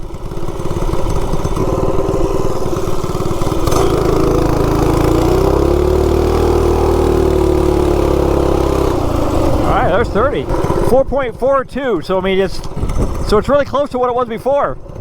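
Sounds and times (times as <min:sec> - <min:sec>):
small engine idling and revving: 0:00.0 - 0:11.1, 0:12.6 - 0:13.6, 0:14.8 - 0:15.0.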